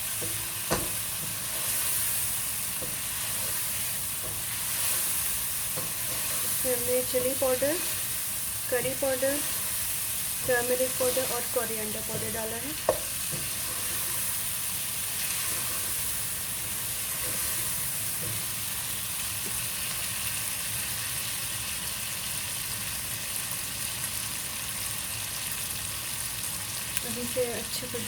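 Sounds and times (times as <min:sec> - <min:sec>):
chicken frying in oil: 0:00.0 - 0:28.0.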